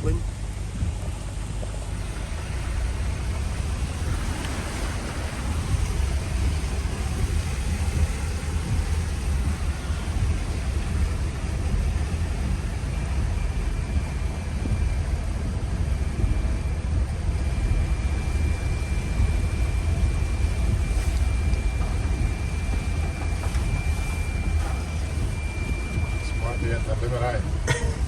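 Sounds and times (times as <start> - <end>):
thin high whine: 0.0 - 28.0
vehicle rumble from inside: 0.0 - 28.0.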